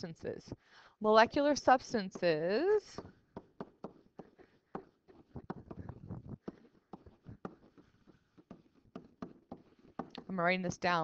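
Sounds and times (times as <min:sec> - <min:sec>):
pen tapping on tablet: 0:01.2 - 0:11.0.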